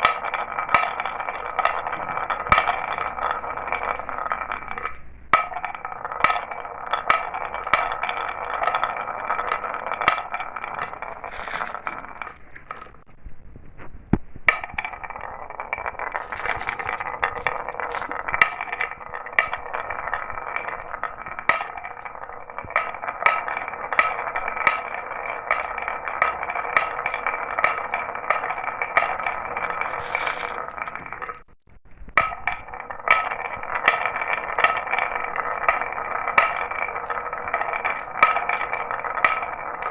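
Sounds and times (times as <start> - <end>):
marbles clicking: 0.0 - 13.1, 14.5 - 39.9
marbles rolling on a track: 0.0 - 13.1, 14.5 - 39.9.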